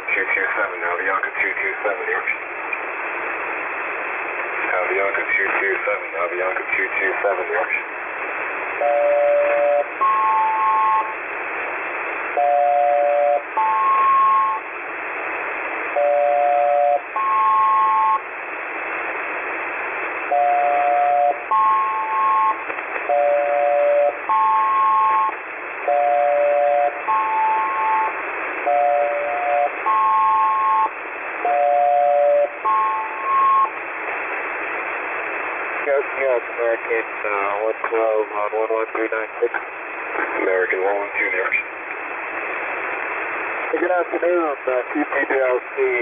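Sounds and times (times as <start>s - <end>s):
radio receiver hiss: 0.0s - 46.0s.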